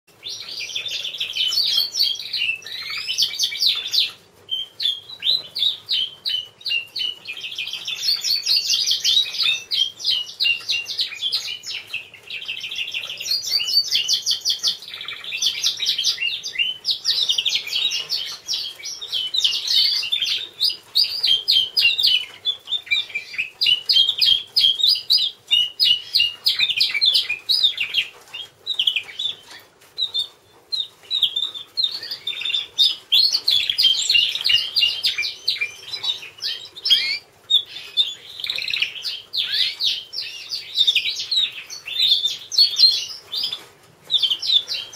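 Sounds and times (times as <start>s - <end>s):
canary singing trills: 0.1s - 44.9s.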